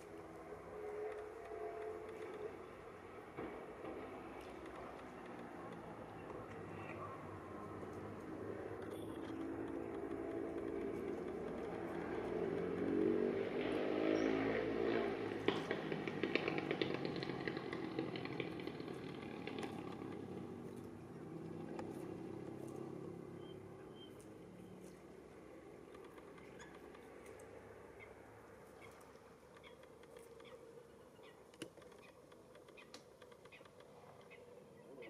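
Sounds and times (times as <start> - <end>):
vehicle engine passing: 0.0 - 30.9.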